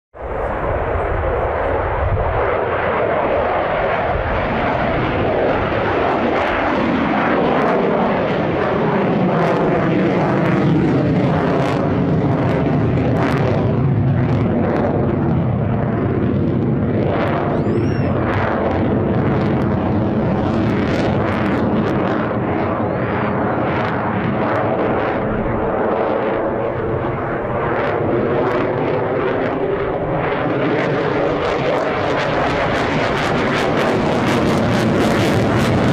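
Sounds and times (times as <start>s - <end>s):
jet engines roaring: 0.2s - 35.9s.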